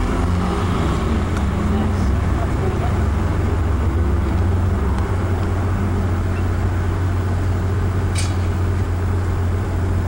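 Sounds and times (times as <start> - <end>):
motor vehicle rumble: 0.0 - 10.0.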